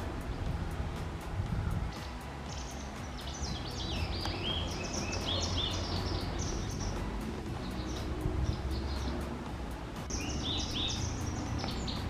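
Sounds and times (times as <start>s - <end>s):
low background rumble: 0.0s - 12.0s
songbird twittering: 0.0s - 12.0s.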